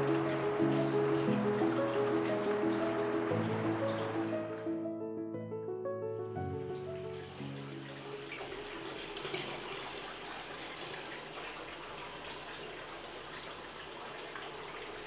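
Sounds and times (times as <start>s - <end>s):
water pouring into a bath: 0.0s - 4.8s, 6.6s - 15.0s.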